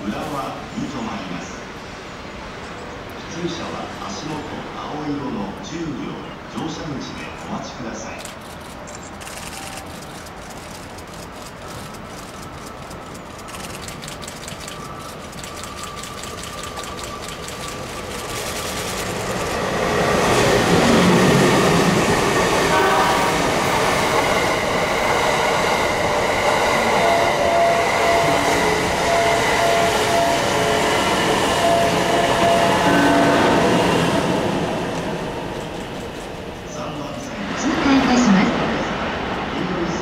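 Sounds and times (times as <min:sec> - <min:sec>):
train passing close by: 0:00.0 - 0:40.0.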